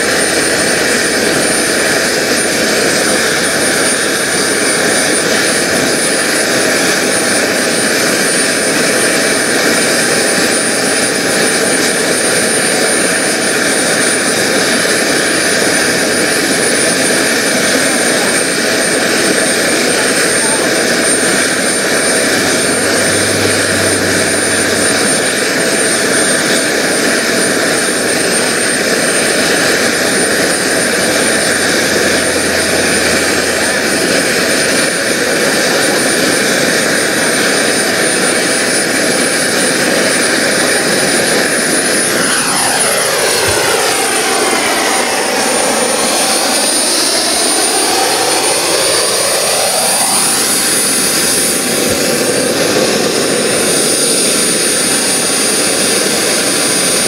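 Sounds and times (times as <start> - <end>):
model jet turbine whining: 0.0 - 57.0.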